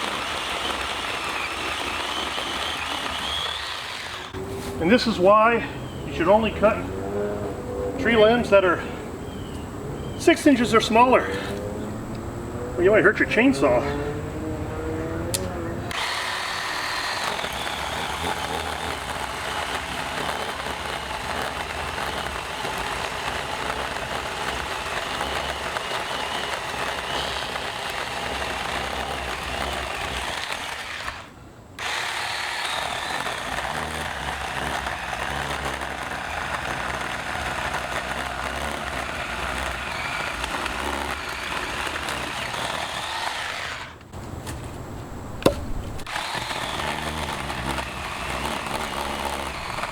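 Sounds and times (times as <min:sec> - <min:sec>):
electric chainsaw cutting wood: 0:00.0 - 0:08.8, 0:10.2 - 0:44.1, 0:45.4 - 0:49.9.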